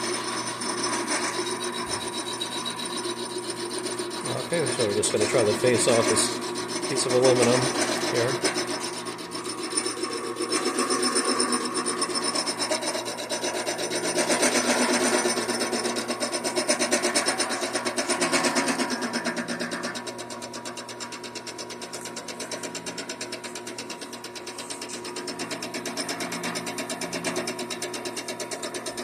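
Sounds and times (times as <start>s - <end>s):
lathe cutting metal rasping: 0.0s - 29.0s
lathe motor hum: 0.0s - 29.0s.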